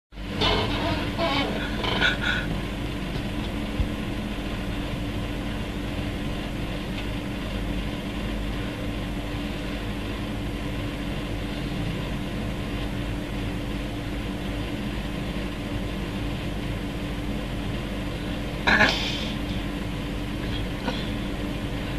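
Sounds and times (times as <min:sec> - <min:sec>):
mechanical hum with hiss: 0:00.2 - 0:21.9.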